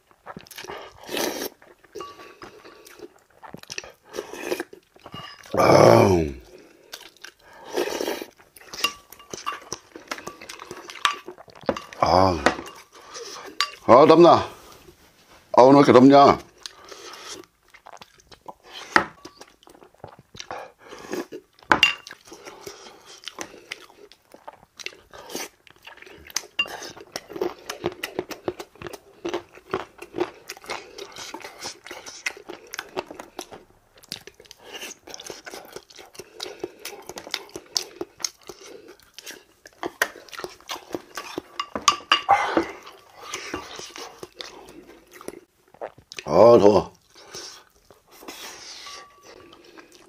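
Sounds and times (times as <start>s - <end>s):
chewing and crunching food: 0.0s - 5.6s, 6.2s - 13.9s, 16.4s - 50.0s.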